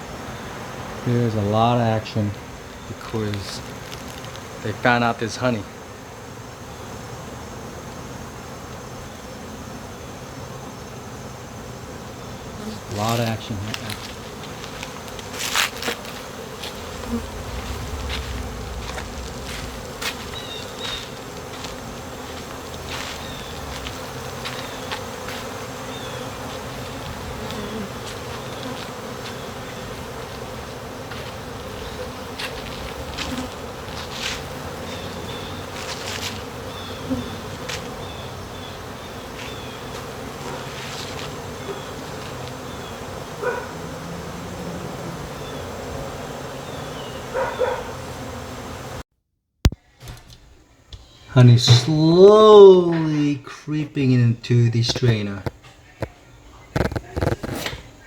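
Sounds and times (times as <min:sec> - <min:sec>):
bees buzzing: 0:00.0 - 0:49.0, 0:50.6 - 0:58.0.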